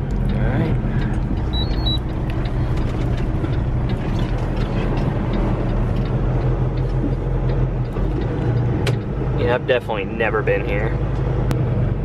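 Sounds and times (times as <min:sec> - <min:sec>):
diesel truck engine running: 0:00.0 - 0:12.0
wind and road noise: 0:00.0 - 0:12.0.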